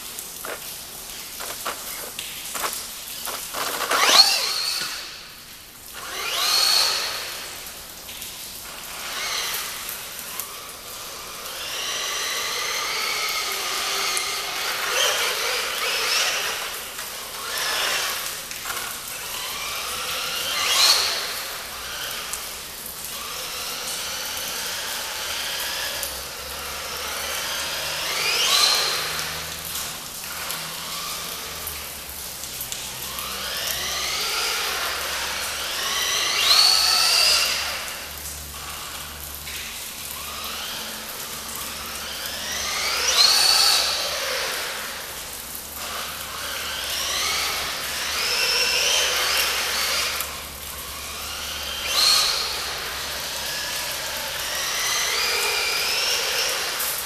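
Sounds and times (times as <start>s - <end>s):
electric motor whining: 0.4s - 5.2s, 6.0s - 7.5s, 8.6s - 32.0s, 33.1s - 38.9s, 40.2s - 45.0s, 45.8s - 57.0s.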